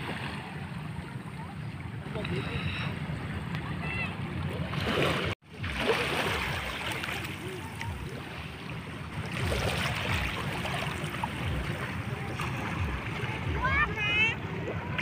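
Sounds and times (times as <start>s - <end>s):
faint distant voices: 0.0s - 15.0s
sea water lapping: 0.0s - 15.0s.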